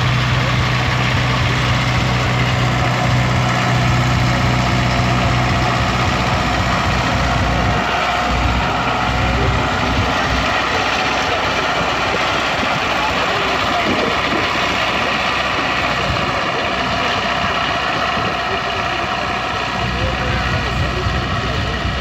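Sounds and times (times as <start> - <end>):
tractor diesel engine running hard: 0.0 - 22.0.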